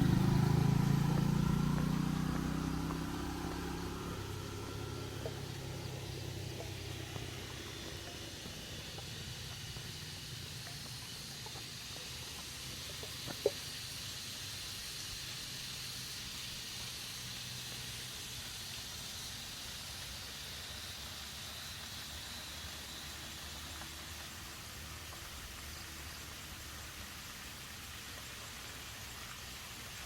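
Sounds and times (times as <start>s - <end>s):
high-pitched outdoor hiss: 0.0s - 30.0s.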